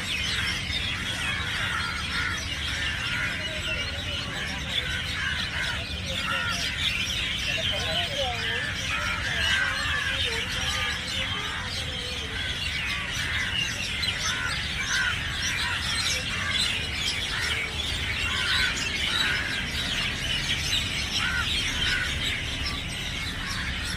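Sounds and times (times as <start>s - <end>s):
birds chirping and calling: 0.0s - 23.9s.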